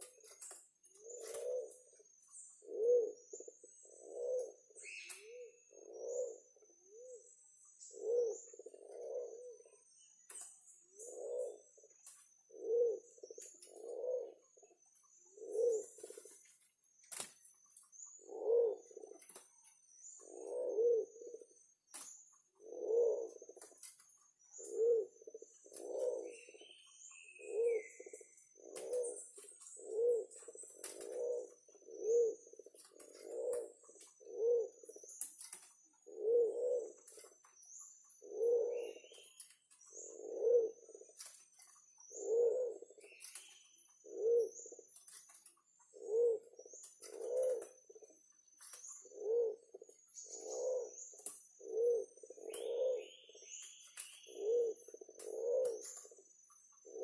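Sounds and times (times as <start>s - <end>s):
pigeon cooing: 0.0s - 9.8s, 10.9s - 16.4s, 18.1s - 19.5s, 20.2s - 21.6s, 22.5s - 35.2s, 35.9s - 37.3s, 38.2s - 45.0s, 45.8s - 48.3s, 49.0s - 57.0s.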